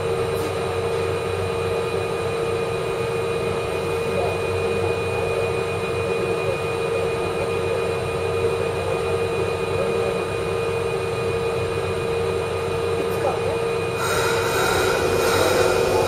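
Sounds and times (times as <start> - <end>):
train equipment humming: 0.0 - 16.0.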